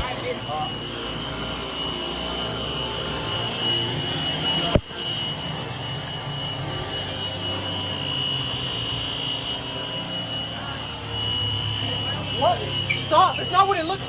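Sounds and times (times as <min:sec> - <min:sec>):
car wash equipment roaring: 0:00.0 - 0:14.0
high whine: 0:00.0 - 0:14.0.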